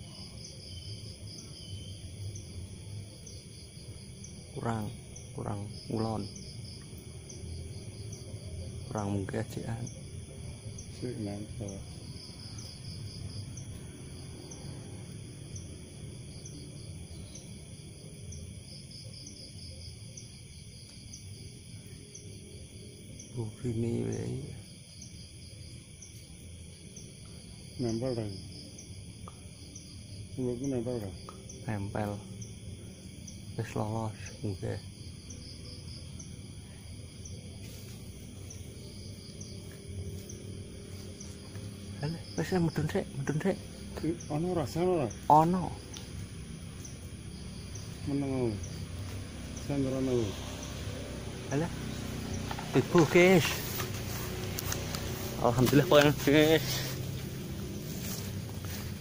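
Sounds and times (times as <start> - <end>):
cricket trilling: 0.0 - 59.0.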